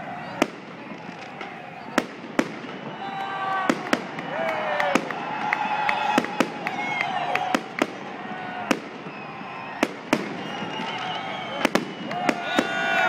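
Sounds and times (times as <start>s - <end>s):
fireworks whistling: 0.0s - 13.0s.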